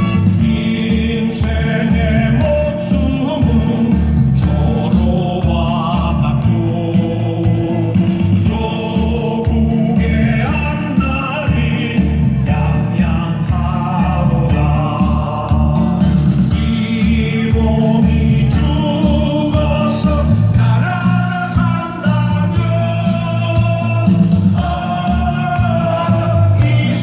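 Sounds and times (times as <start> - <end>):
group of voices singing: 0.0 - 27.0
steady driving beat: 0.0 - 27.0.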